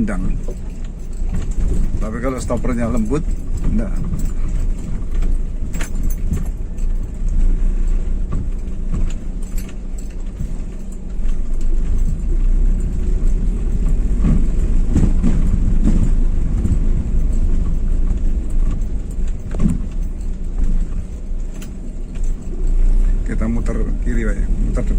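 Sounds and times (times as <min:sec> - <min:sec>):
engine and road rumble: 0:00.0 - 0:24.9
light rattles and knocks: 0:00.0 - 0:24.9.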